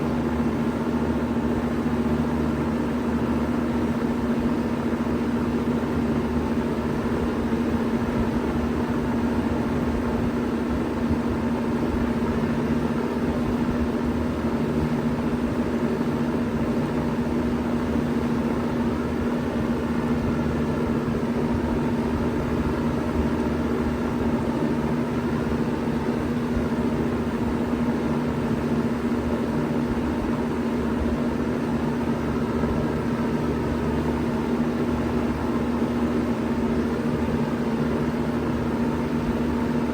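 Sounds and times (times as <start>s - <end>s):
fan air rushing: 0.0s - 39.9s
heat pump humming: 0.0s - 39.9s.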